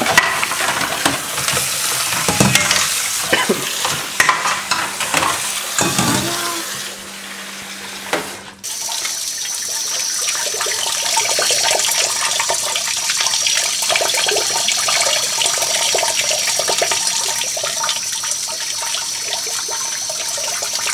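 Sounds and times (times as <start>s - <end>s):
household water running: 0.0s - 20.9s.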